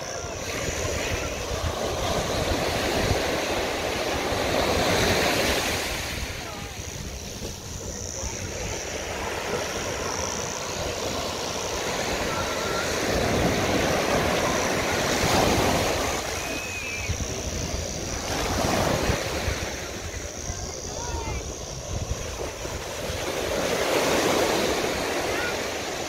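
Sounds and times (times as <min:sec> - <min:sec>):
small waves breaking on sand: 0:00.0 - 0:26.0
wind buffeting microphone: 0:00.0 - 0:26.0.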